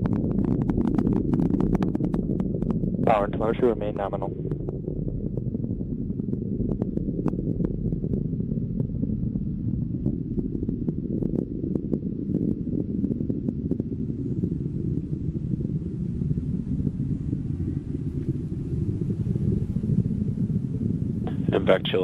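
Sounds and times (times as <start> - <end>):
rocket engine roaring and crackling: 0.0 - 22.0.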